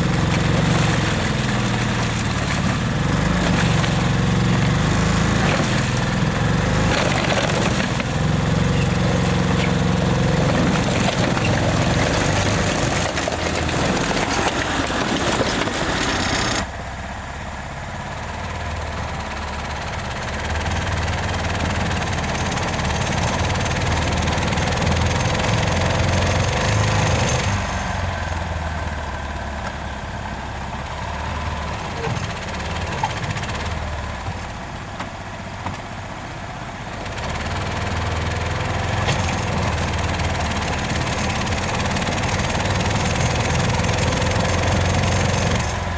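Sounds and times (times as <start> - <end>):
tires churning through mud: 0.0 - 16.7, 19.9 - 45.9
small engine running hard: 0.0 - 16.8, 18.2 - 34.7, 35.3 - 45.9.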